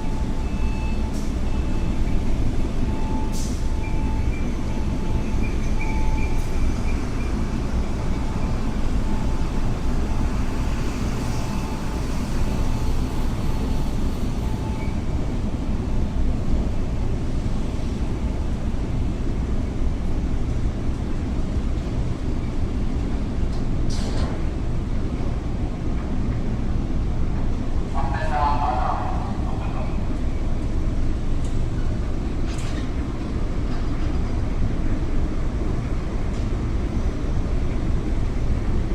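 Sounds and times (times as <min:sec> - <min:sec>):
ferry engines rumbling: 0:00.0 - 0:38.9.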